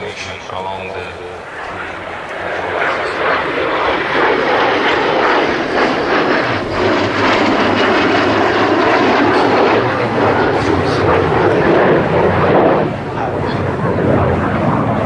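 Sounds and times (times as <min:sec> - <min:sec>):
jet flying overhead: 0:00.0 - 0:15.0.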